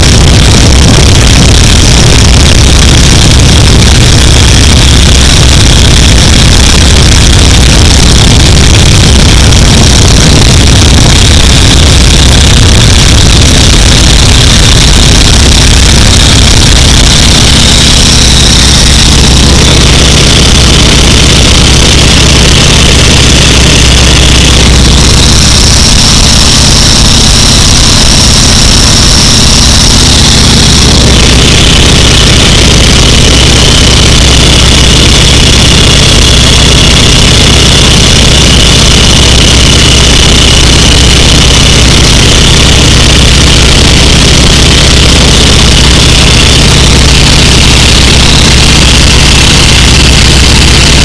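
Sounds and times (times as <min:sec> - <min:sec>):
propeller plane engine drone: 0:00.0 - 0:51.0
rushing wind: 0:00.0 - 0:51.0.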